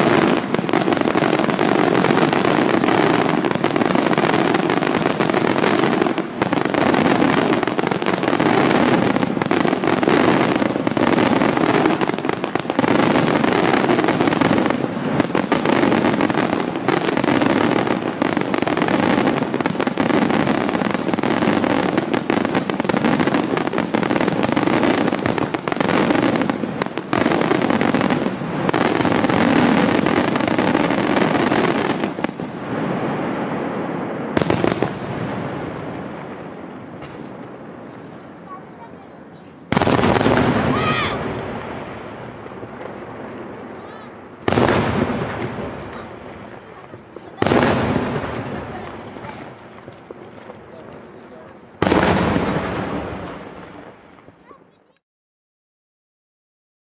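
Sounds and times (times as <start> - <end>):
fireworks booming and crackling: 0.0 - 55.0.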